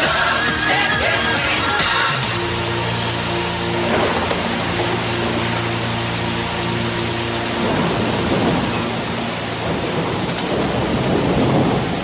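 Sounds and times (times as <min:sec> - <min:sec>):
music: 0:00.0 - 0:10.6.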